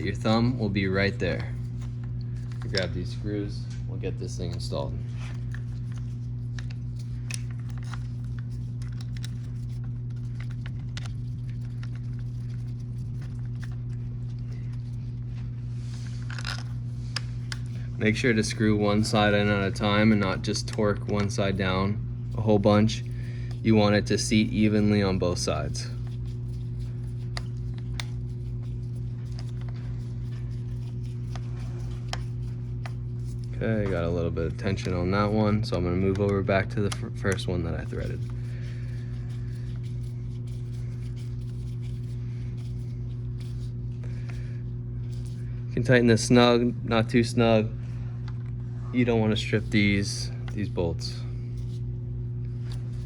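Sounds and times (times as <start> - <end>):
low hum: 0.0 - 53.0.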